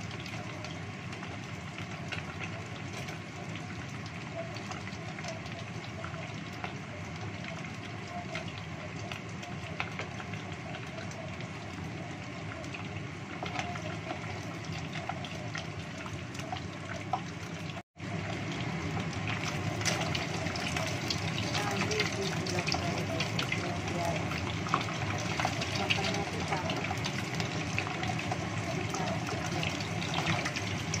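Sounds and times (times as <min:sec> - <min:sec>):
oil sizzling and popping: 0:00.0 - 0:31.0.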